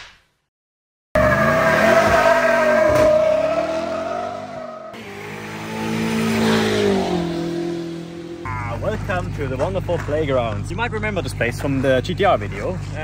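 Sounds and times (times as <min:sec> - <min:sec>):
car engine revving: 0:01.2 - 0:11.9.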